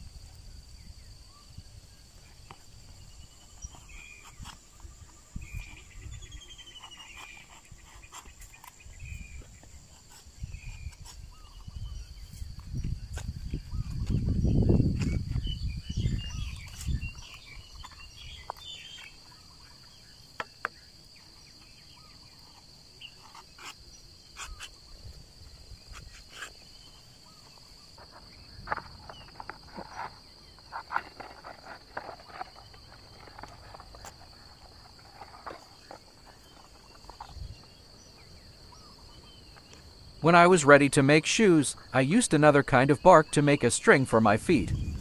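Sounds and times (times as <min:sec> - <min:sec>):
high insect trill: 0:00.0 - 0:45.0
dry bark and leaves rustling: 0:01.1 - 0:40.2.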